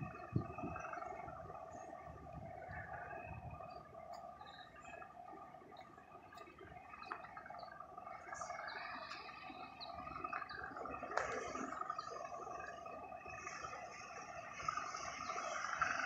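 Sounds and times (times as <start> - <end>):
steady drone of held tones: 0.0 - 16.0.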